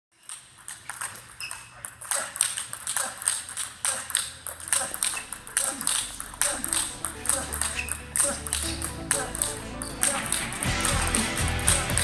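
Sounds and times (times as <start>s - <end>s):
table tennis balls clicking: 0.1s - 12.0s.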